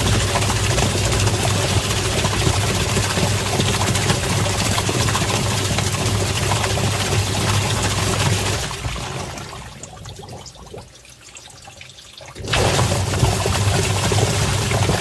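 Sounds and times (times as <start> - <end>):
washing machine motor hum: 0.0 - 11.7, 12.3 - 15.0
water churning in tub: 0.0 - 15.0.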